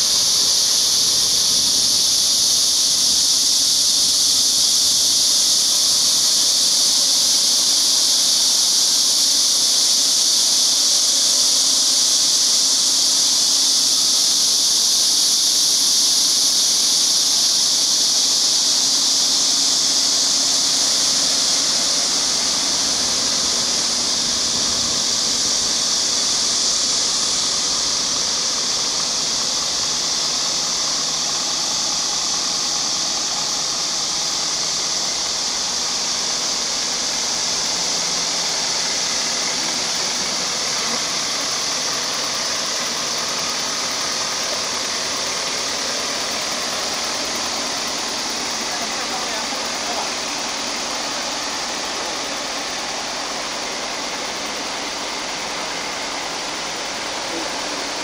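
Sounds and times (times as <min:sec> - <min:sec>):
high-pitched hiss: 0:00.0 - 0:58.0.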